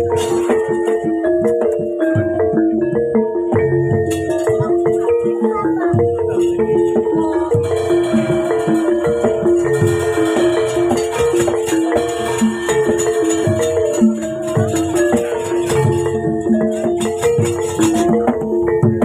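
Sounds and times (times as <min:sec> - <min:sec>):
gamelan metal keys melody: 0:00.0 - 0:19.0.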